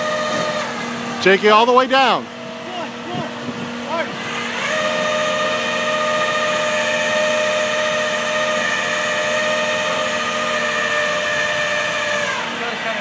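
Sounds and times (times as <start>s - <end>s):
hydraulics whining: 0.0s - 13.0s.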